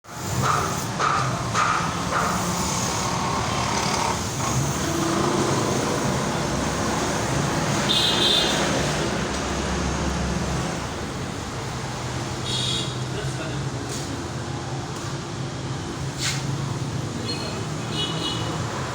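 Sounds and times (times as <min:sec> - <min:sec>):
road traffic engine hum: 0:00.0 - 0:18.9.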